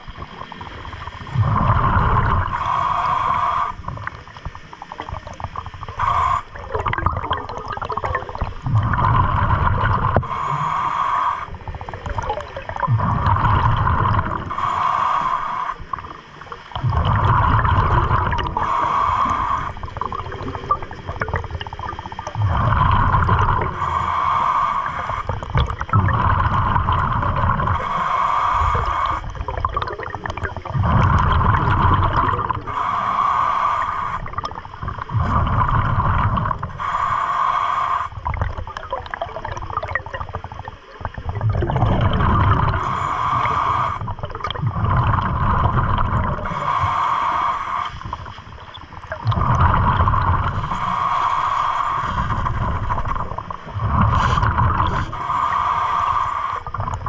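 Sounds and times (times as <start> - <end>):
gurgling exhaled bubbles: 0.0 - 57.0.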